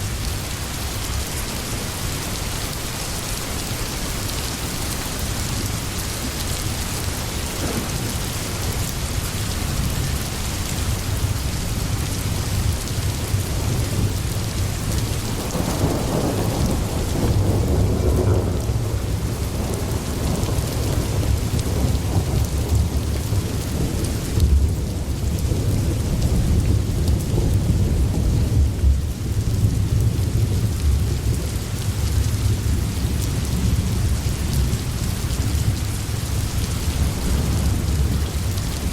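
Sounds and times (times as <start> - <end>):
steady rain: 0.0 - 38.9
rolling thunder: 6.7 - 11.4, 12.0 - 38.9.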